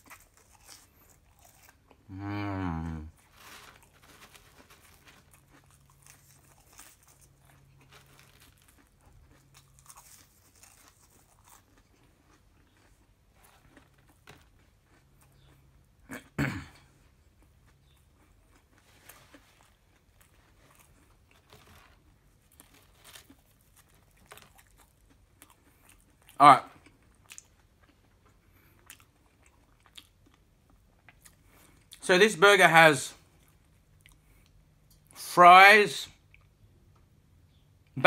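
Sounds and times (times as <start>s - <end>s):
person chewing french fries: 0.0s - 32.0s, 33.2s - 35.3s, 36.2s - 38.0s.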